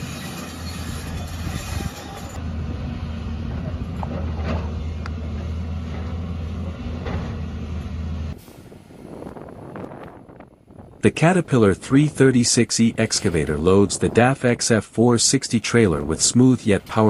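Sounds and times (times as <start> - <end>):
excavator diesel engine humming: 0.0 - 10.2, 10.8 - 17.0.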